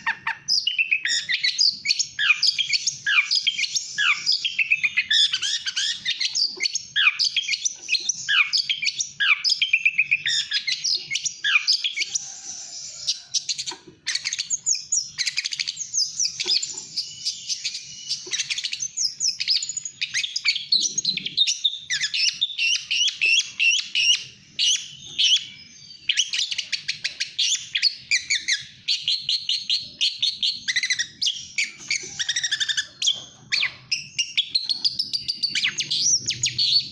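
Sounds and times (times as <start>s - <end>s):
shrike singing chirps and trills: 0.0s - 36.9s.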